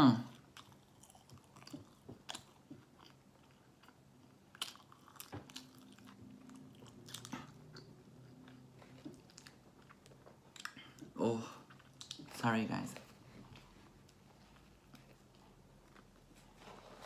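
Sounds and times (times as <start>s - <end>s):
faint chewing: 0.2s - 17.0s.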